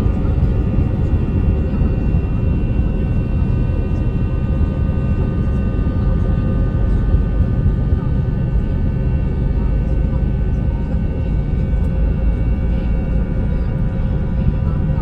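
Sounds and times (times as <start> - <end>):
jet engines rumbling at takeoff: 0.0 - 15.0.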